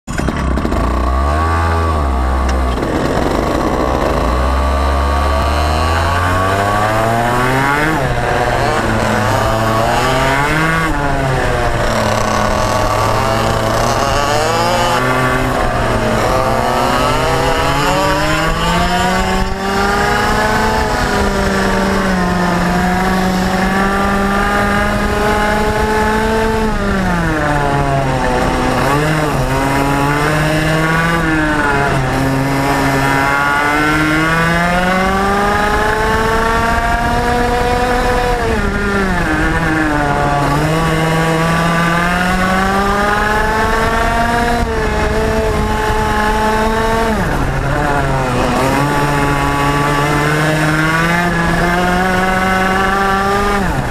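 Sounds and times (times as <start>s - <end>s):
kart engine revving: 0.1s - 53.9s.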